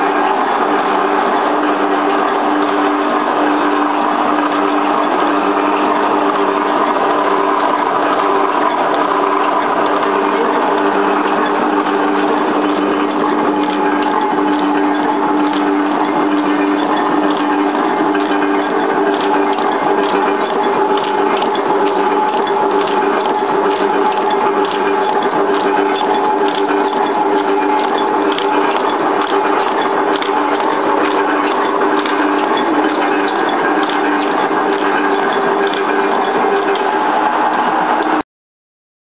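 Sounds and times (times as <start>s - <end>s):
machine hum: 0.0s - 38.2s
machine levers clacking rhythmically: 0.0s - 38.2s.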